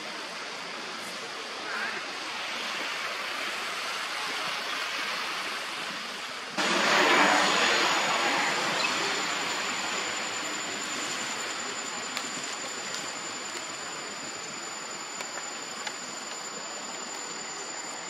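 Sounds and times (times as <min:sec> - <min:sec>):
rushing outdoor noise: 0:00.0 - 0:18.0
thin high whine: 0:00.0 - 0:18.0.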